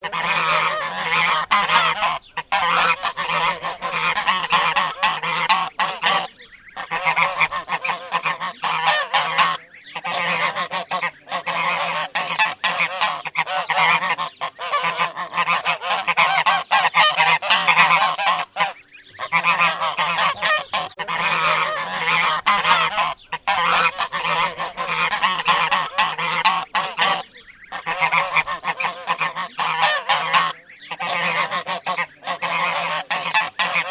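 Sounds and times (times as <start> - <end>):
goose honking: 0.0 - 33.9.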